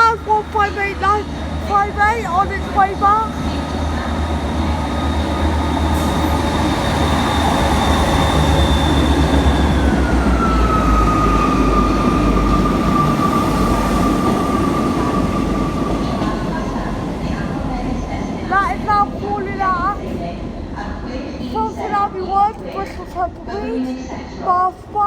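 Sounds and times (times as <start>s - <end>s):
diesel train engines rumbling: 0.0s - 25.0s.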